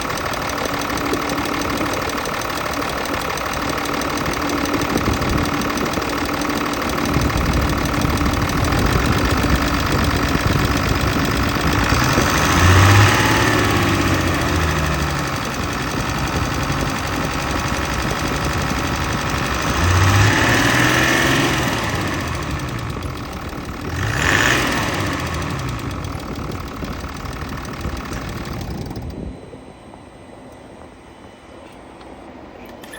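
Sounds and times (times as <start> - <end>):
diesel engine knocking: 0.0 - 29.2.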